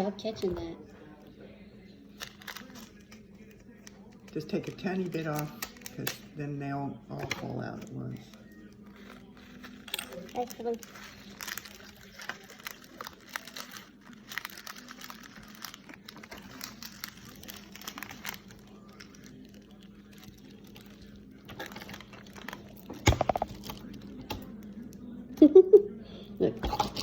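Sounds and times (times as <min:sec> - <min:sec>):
plastic crinkling and rustling: 0:02.2 - 0:06.3, 0:07.1 - 0:25.0.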